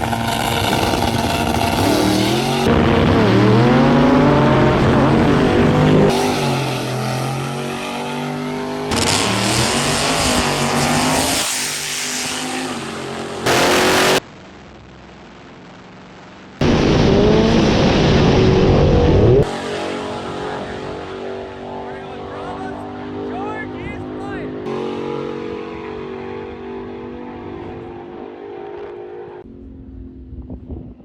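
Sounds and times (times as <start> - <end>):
race car engines revving: 0.0 - 14.2, 16.6 - 31.0.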